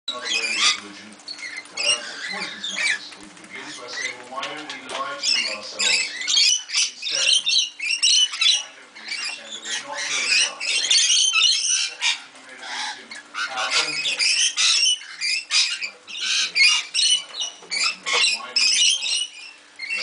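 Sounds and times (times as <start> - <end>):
parrots chattering and screeching: 0.1 - 20.0.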